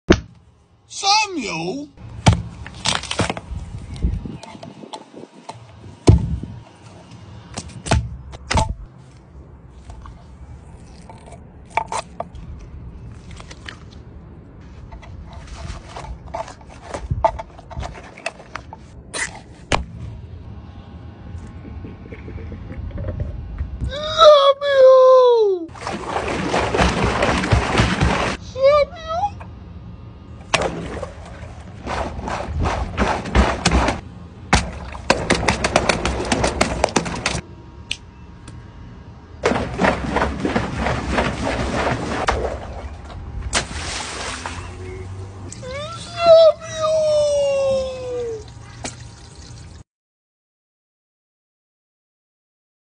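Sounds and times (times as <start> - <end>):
low steady rumble: 0.1 - 49.8.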